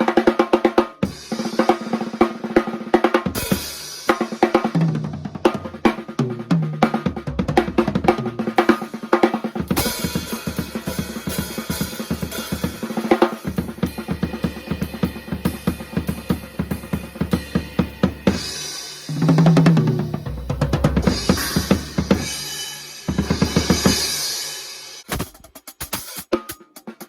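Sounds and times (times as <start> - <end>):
drum kit playing: 0.0 - 27.0.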